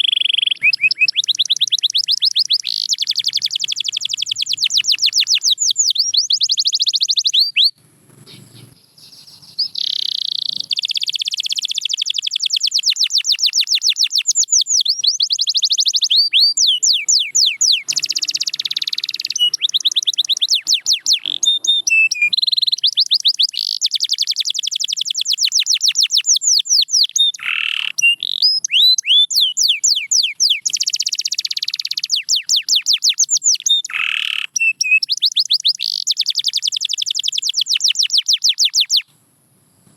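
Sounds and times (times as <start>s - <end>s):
canary singing trills: 0.0s - 39.1s.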